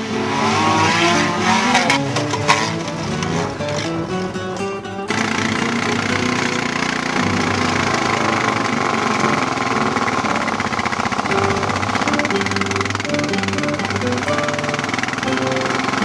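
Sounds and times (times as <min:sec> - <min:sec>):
music: 0:00.0 - 0:10.5, 0:11.2 - 0:16.0
vehicle engine running: 0:00.0 - 0:16.0.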